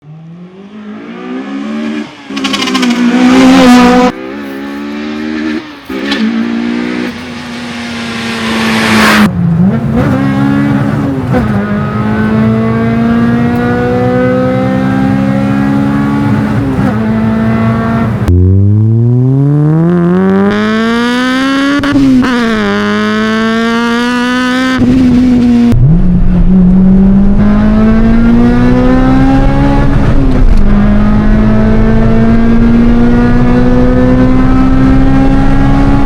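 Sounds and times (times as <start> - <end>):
car engine revving hard: 0.0 - 36.0.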